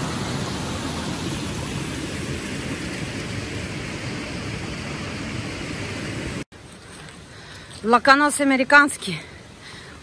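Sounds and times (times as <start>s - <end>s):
river running over stones: 0.0s - 10.0s.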